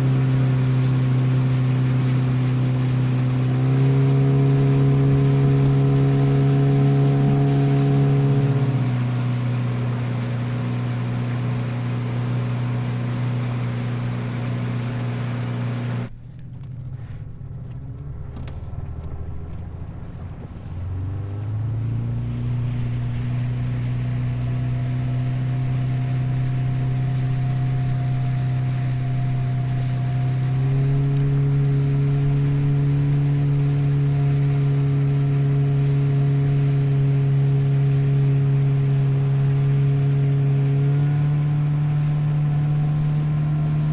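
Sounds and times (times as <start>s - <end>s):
water and wind rushing: 0.0s - 16.2s, 18.1s - 43.9s
motorboat engine running: 0.0s - 43.9s.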